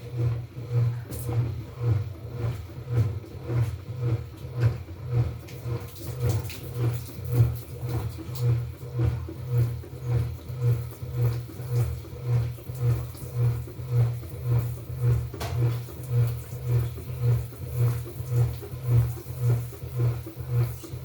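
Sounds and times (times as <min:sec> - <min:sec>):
washing machine churning: 0:00.0 - 0:21.0.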